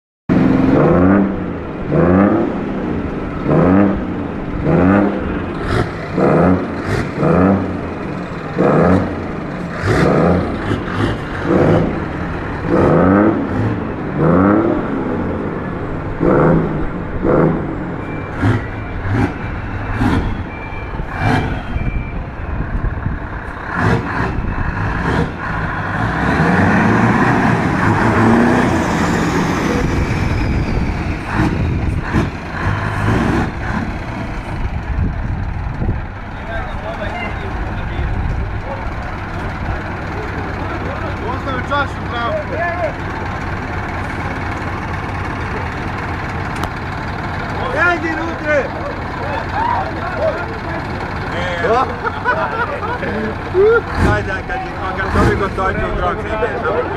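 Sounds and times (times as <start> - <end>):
truck engine revving: 0.3 - 56.9.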